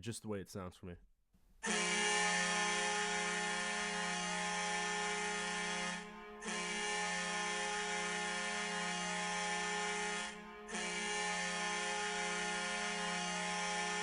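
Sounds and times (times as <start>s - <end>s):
goal horn sounding: 1.6s - 14.0s.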